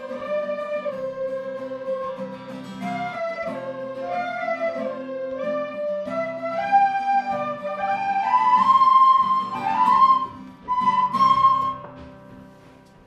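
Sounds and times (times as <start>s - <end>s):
slow instrumental background music: 0.0s - 13.0s.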